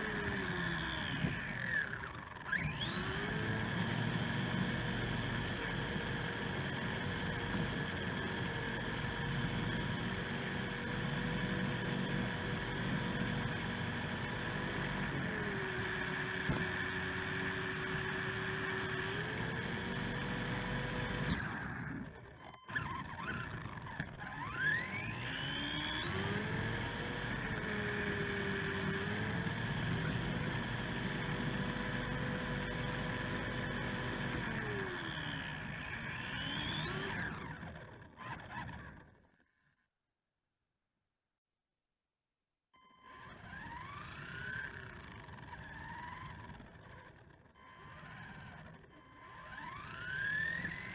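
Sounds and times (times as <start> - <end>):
electric motor and gear whine: 0.0 - 39.3, 42.8 - 50.9.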